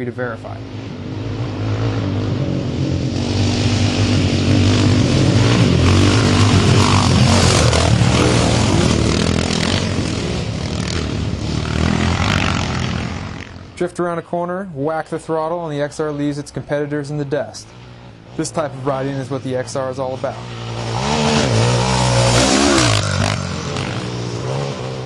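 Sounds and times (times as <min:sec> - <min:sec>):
dirt bikes passing by: 0:00.0 - 0:14.3, 0:15.1 - 0:25.0.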